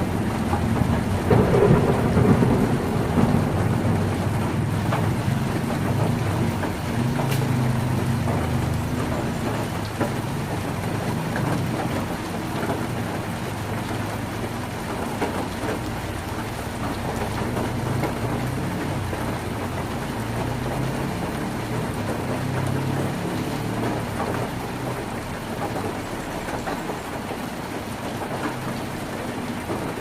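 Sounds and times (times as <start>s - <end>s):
heavy rain on a tin roof: 0.0s - 30.0s.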